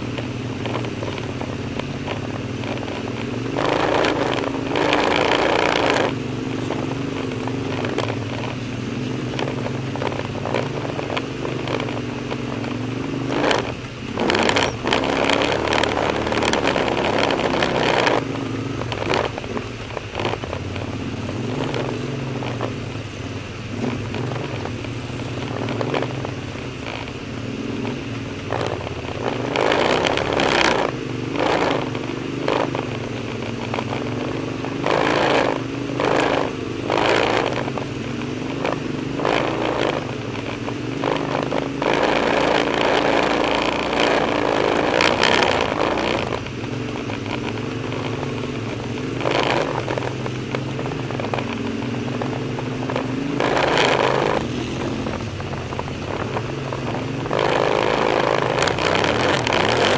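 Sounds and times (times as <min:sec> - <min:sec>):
quad bike engine revving: 0:00.0 - 0:59.9
quad bumping through brush: 0:00.0 - 0:59.9.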